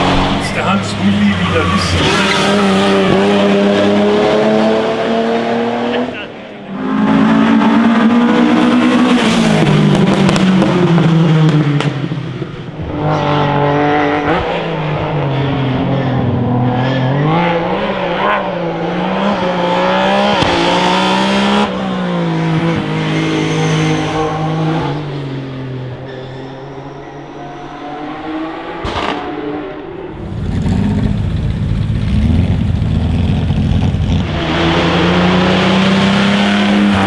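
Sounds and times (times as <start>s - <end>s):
racing car engines accelerating: 0.0s - 37.0s.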